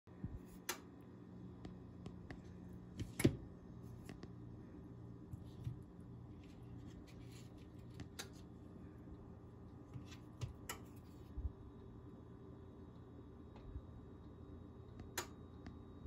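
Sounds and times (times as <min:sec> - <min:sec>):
faint low hum: 0:00.1 - 0:16.0.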